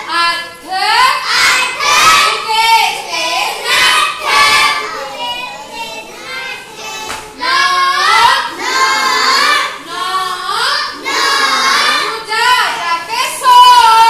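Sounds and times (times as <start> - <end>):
children singing together: 0.0 - 14.0.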